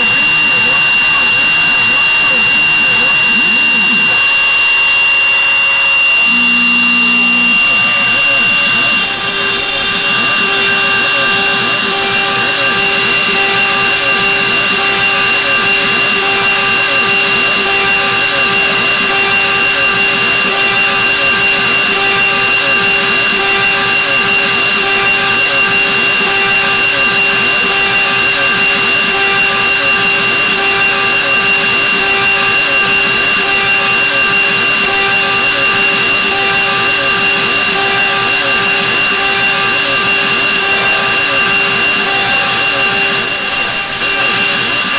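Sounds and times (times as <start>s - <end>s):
router spindle whine: 0.0s - 44.9s.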